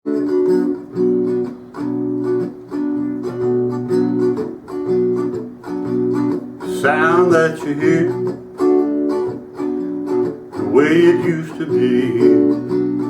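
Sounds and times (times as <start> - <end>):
guitar strummed chords: 0.1 - 13.0.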